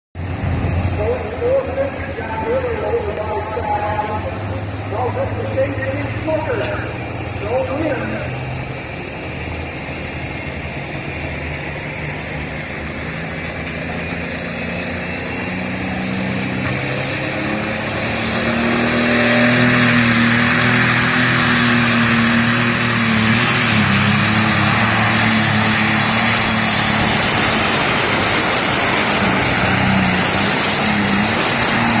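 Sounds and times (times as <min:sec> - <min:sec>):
tractor diesel engine roaring: 0:00.2 - 0:32.0.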